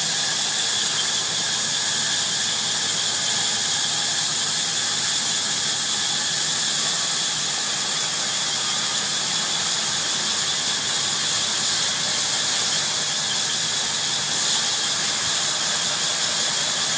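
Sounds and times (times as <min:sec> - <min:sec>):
bandsaw cutting wood: 0:00.0 - 0:16.9.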